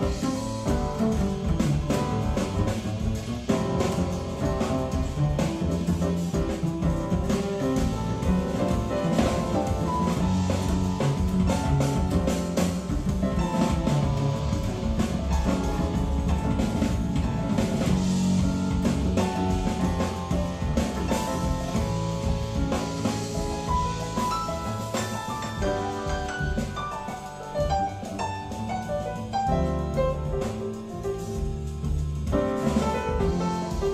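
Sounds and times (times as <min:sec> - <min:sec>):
instrumental music with drum kit: 0:00.0 - 0:33.9.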